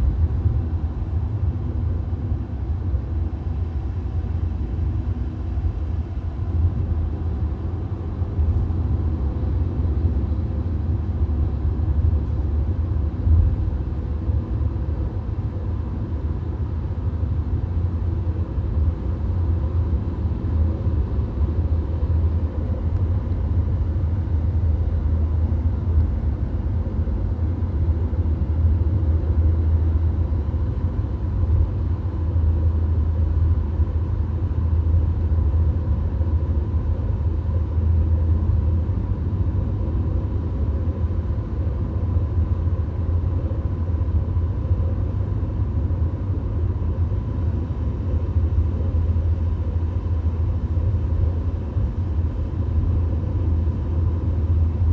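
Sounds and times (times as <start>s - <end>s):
faint steady whine: 0.0s - 54.9s.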